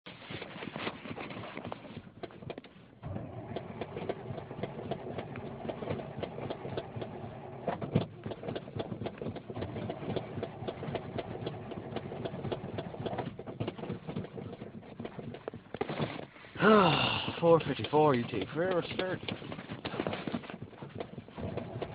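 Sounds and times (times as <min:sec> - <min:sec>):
engine starter cranking: 0:03.0 - 0:21.9.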